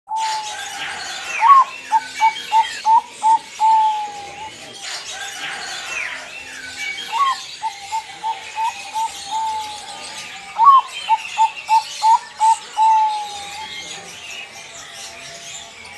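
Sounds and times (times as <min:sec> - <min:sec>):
dove cooing: 0:00.1 - 0:14.1
small birds chirping faintly: 0:00.1 - 0:15.9.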